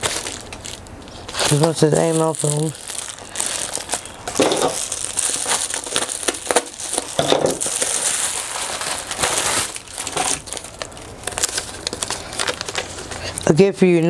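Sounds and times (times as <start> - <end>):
plastic envelope crinkling: 0.0 - 13.6.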